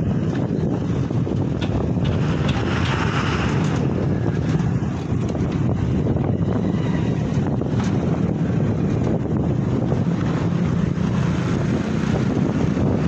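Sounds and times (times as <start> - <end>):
moving vehicle rumble: 0.0 - 13.0
wind buffeting microphone: 0.0 - 13.0.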